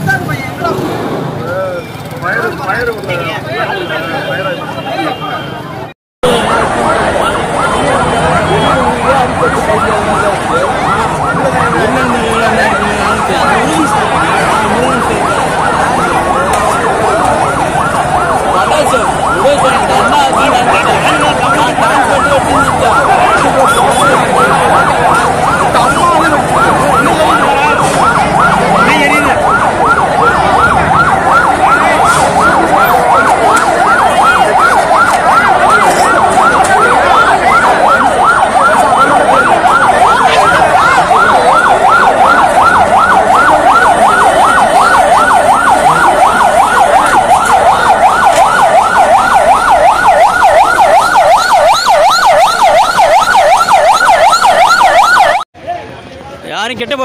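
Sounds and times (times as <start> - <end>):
ambulance siren yelping: 2.0 - 55.5
background din: 6.2 - 55.4.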